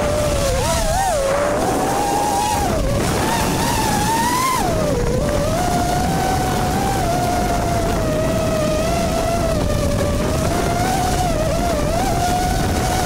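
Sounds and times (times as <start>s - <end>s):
rush of air: 0.0s - 10.6s
drone motors whining: 0.0s - 13.0s.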